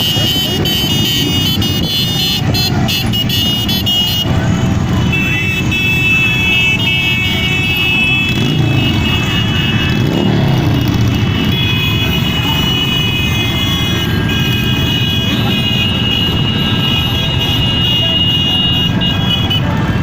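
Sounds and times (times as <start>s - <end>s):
motorcycle engines rumbling: 0.0s - 20.0s.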